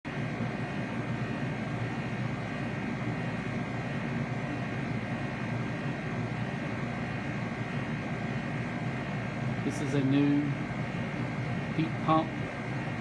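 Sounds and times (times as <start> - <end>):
heat pump water heater droning: 0.1 - 13.0.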